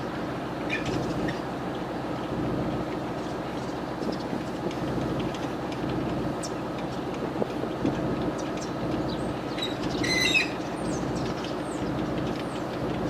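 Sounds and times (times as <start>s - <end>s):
truck rumbling: 0.0s - 13.0s.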